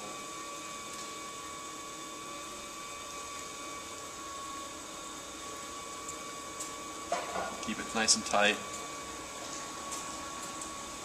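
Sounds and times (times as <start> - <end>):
potter's wheel spinning: 0.0 - 11.0.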